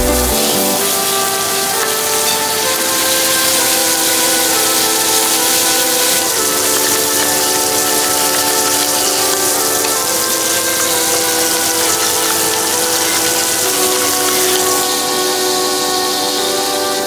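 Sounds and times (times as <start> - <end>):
soft background music: 0.0 - 17.0
steaks sizzling in a frying pan: 0.2 - 16.8.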